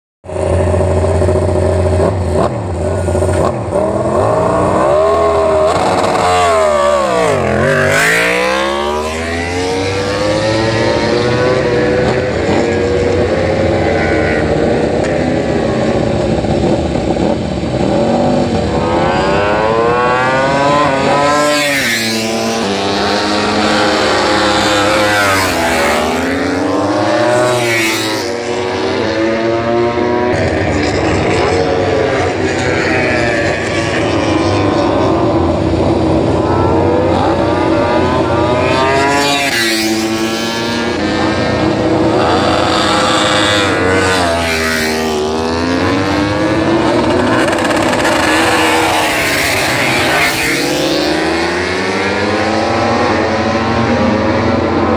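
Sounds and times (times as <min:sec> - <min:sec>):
race bike engines revving: 0:00.3 - 0:54.9
race bikes accelerating away: 0:00.3 - 0:54.9.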